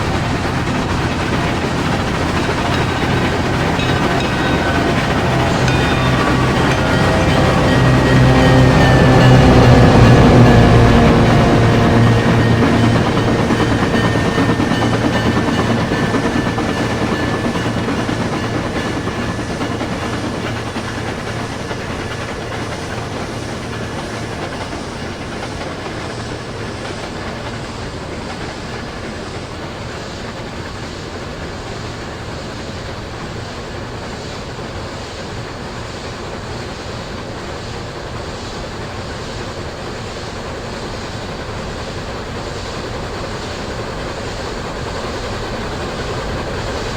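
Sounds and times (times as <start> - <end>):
train clattering on rails: 0.0 - 46.9.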